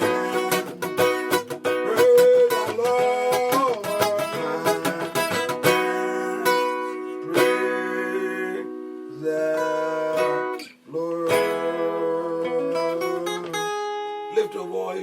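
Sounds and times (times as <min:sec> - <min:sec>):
guitar playing slow chords: 0:00.0 - 0:14.5.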